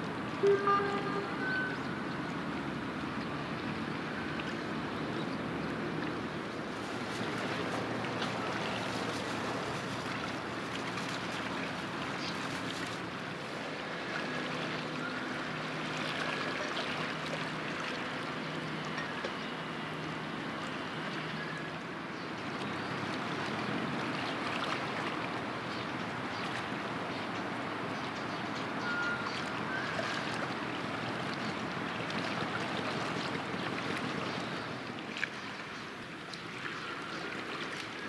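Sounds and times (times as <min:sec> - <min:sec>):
faint low boat engine drone: 0:00.0 - 0:38.0
water noise: 0:00.0 - 0:38.0.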